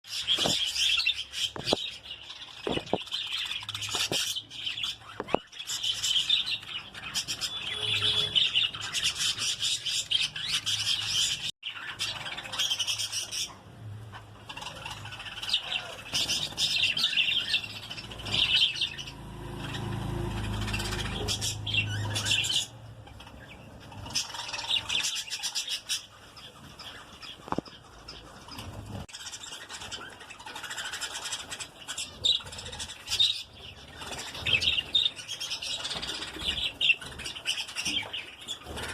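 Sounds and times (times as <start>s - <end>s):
parrots chirping and chattering: 0.0s - 38.9s.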